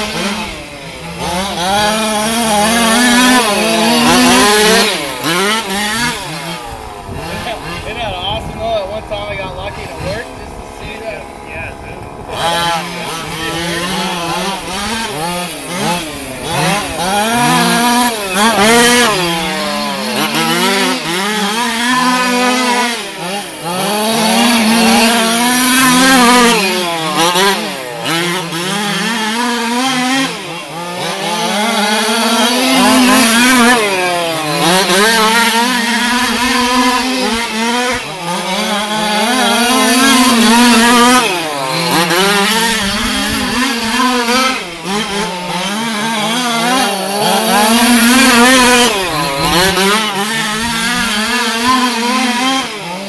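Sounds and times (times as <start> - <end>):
rc car two-stroke engines revving: 0.0 - 53.0.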